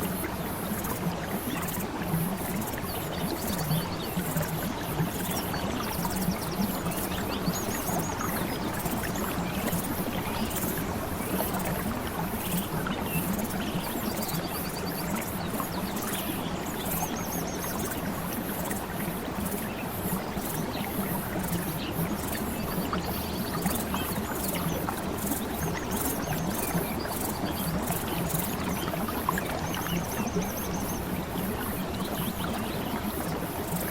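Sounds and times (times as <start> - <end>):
flowing water: 0.0 - 33.9.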